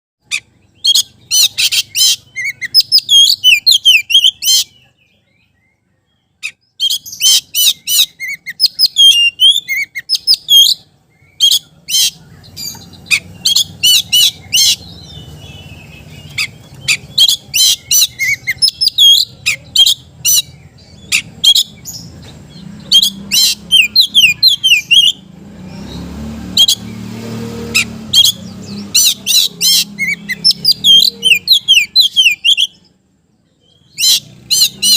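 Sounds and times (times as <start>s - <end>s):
bird singing chirps and whistles: 0.2s - 34.9s.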